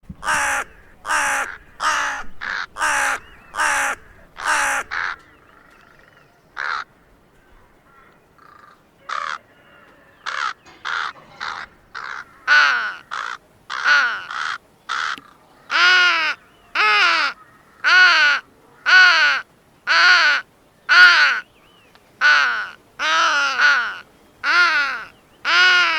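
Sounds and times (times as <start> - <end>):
crow cawing: 0.2 - 21.4, 22.2 - 25.9.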